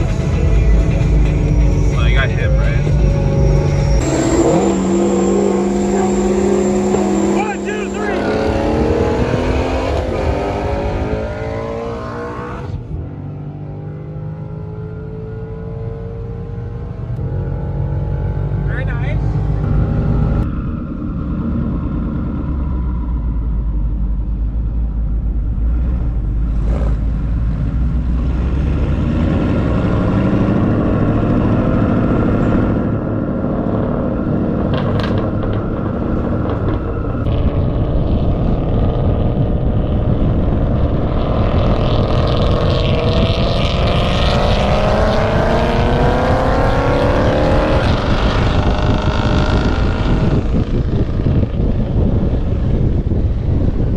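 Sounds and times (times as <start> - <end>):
car engine revving: 0.0 - 53.1.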